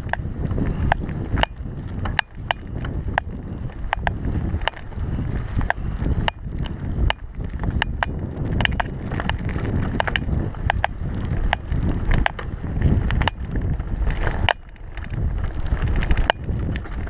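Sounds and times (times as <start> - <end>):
bike rattling over bumps: 0.0 - 17.0
tyres rumbling on gravel: 0.0 - 17.0
wind on microphone: 0.0 - 17.0.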